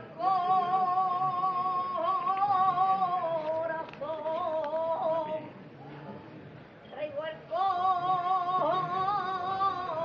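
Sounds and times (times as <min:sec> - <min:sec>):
solo voice singing unaccompanied: 0:00.2 - 0:05.5, 0:07.0 - 0:10.0.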